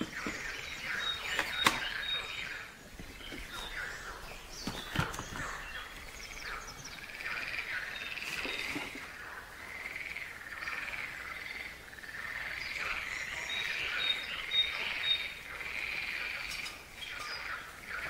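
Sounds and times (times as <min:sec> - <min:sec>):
frogs croaking: 0:00.0 - 0:18.0.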